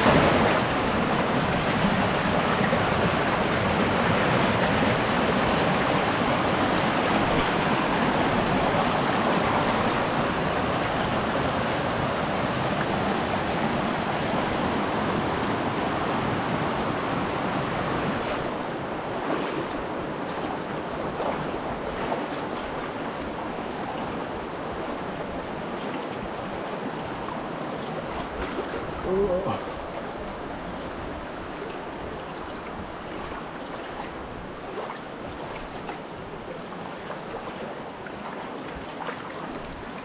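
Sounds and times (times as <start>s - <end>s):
creek water running over rocks: 0.0s - 40.0s.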